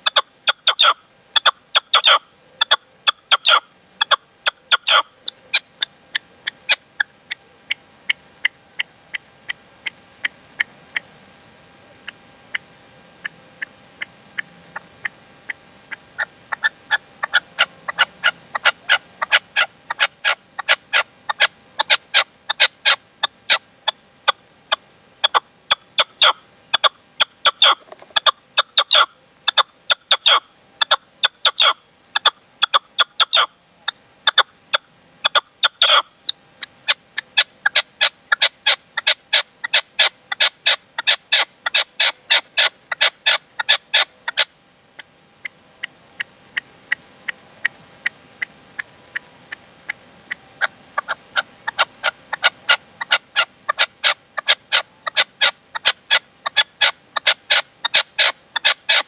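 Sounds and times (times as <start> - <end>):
partridge calling: 0.0 - 11.1, 12.0 - 59.0.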